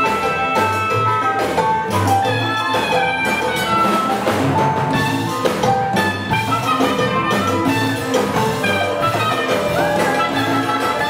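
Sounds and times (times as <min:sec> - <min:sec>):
latin big band music: 0:00.0 - 0:11.0.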